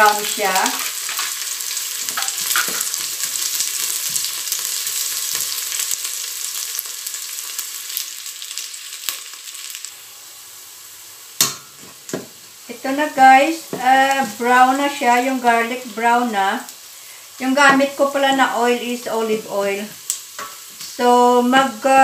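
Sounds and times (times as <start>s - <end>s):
onion and garlic sizzling in oil: 0.0s - 22.0s.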